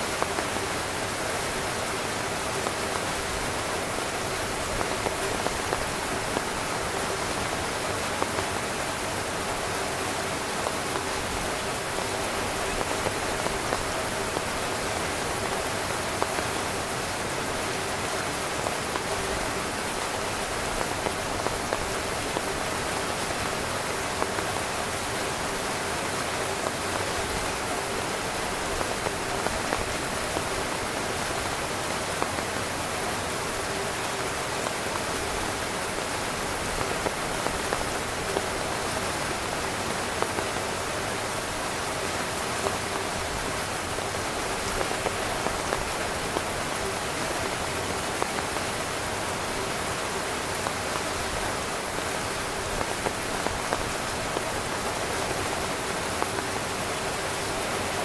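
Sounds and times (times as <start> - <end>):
heavy rain on tent fabric: 0.0 - 58.0.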